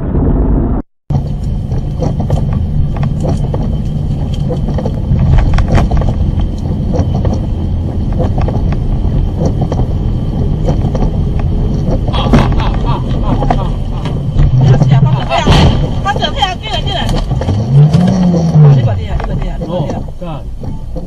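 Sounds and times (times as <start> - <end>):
car driving drone: 0.0 - 21.0.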